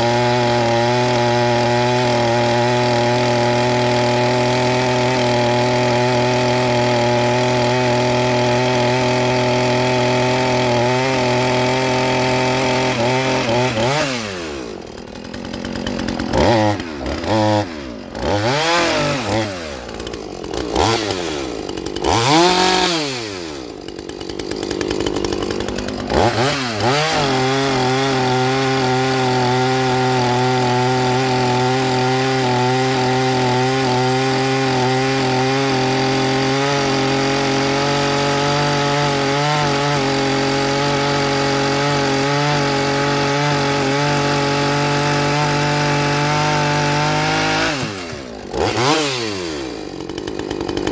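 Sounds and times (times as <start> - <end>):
chainsaw engine revving: 0.0 - 50.9.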